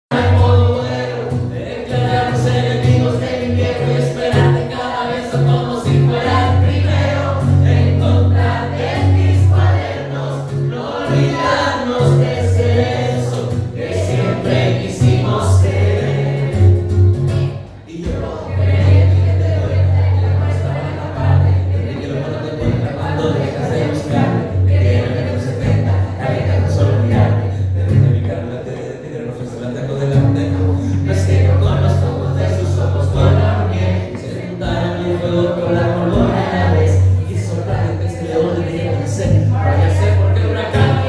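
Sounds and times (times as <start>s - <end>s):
man singing: 0.0s - 16.9s, 17.8s - 41.0s
acoustic guitar: 0.1s - 41.0s.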